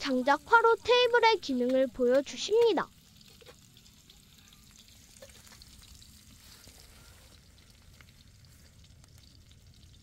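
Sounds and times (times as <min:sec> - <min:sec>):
food sizzling over wood fire: 0:00.0 - 0:10.0
small fire crackles: 0:00.0 - 0:10.0.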